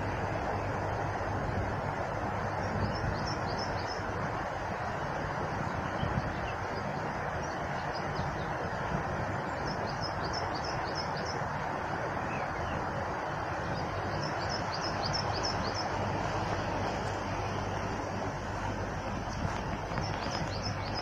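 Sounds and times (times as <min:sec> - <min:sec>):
flowing water rushing: 0:00.0 - 0:21.0
birds chirping: 0:02.4 - 0:05.0, 0:05.6 - 0:21.0.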